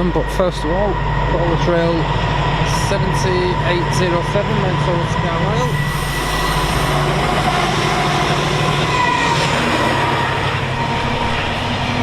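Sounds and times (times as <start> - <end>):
freight train passing: 0.0 - 12.0.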